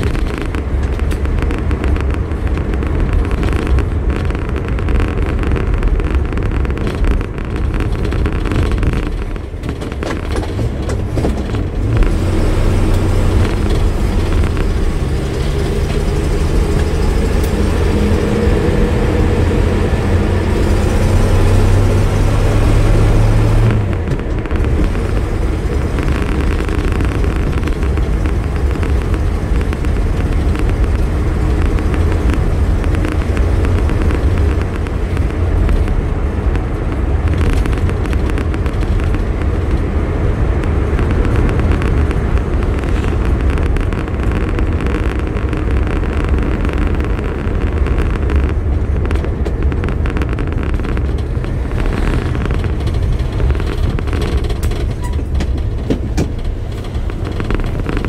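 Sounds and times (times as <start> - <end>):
car engine from inside cabin: 0.0 - 58.0
road noise: 0.0 - 58.0.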